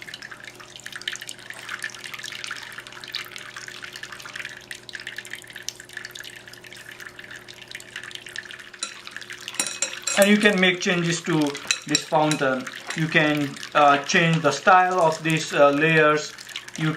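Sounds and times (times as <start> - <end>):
fountain water trickling: 0.0 - 16.9
small water splashes: 0.0 - 16.9.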